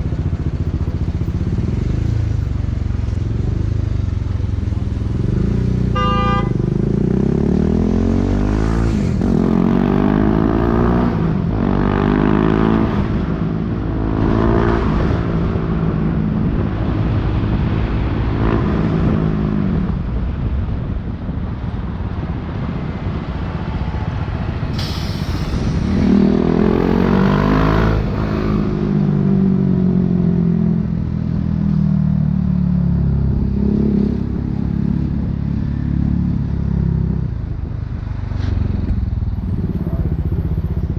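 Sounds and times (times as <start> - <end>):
motorcycle engine accelerating: 0.0 - 21.0, 25.6 - 40.9.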